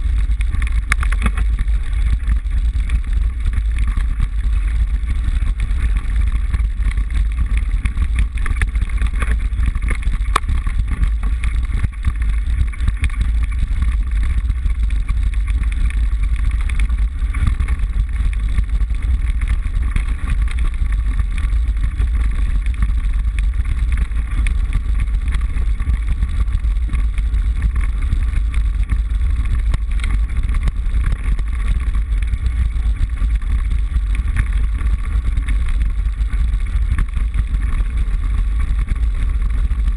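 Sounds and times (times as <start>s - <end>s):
bike rattles and clicks: 0.0s - 39.9s
wind and road vibration rumble: 0.0s - 39.9s.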